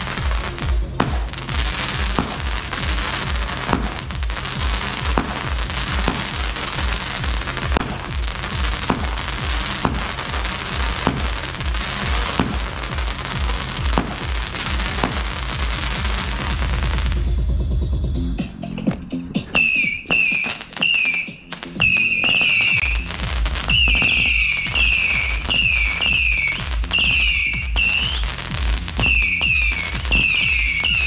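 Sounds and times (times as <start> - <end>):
firework hiss and crackle: 0.0 - 17.2, 19.6 - 31.0
firework pops: 0.0 - 17.2, 18.9 - 31.0
music with steady beat: 0.0 - 31.0.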